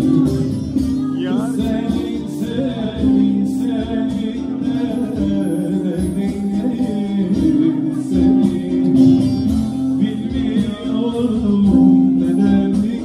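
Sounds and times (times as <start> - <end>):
acoustic guitar playing: 0.0 - 13.0
long-necked lute playing: 0.0 - 13.0
man singing: 0.0 - 13.0.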